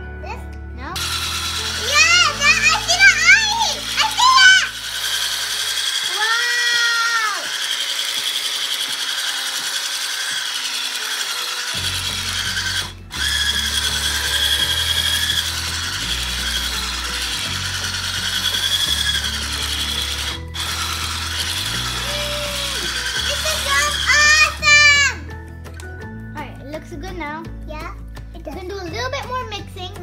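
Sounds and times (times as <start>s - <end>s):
hand blender motor running: 1.0s - 25.2s.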